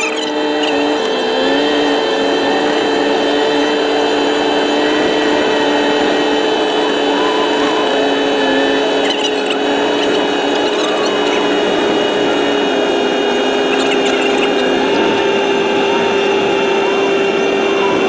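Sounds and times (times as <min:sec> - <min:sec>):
vehicle engine droning with whine: 0:00.0 - 0:18.0.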